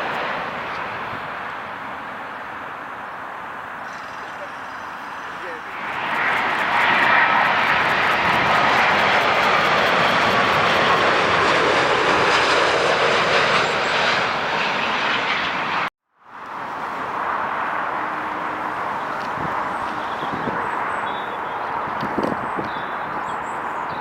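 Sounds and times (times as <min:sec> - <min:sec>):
jet airliner landing: 0:00.0 - 0:24.0.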